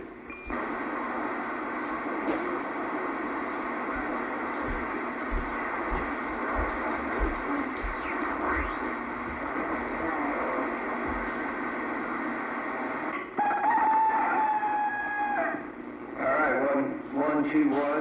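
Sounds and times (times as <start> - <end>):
faint radio signals: 0.0 - 18.0
radio static hiss: 0.0 - 18.0
steady tone through speaker: 0.0 - 18.0.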